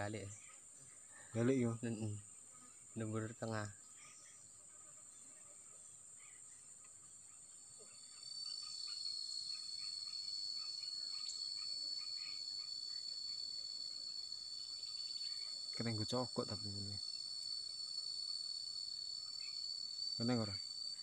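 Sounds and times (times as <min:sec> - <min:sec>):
insects droning: 0:00.0 - 0:21.0
pulsing insect trill: 0:00.0 - 0:21.0.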